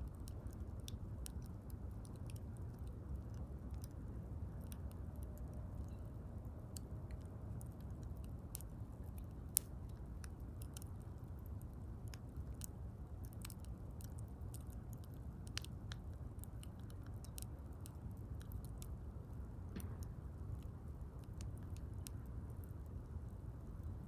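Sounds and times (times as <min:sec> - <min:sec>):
sharp snaps and pops: 0:00.0 - 0:06.0, 0:06.7 - 0:24.0
wood fire crackling: 0:00.0 - 0:24.0.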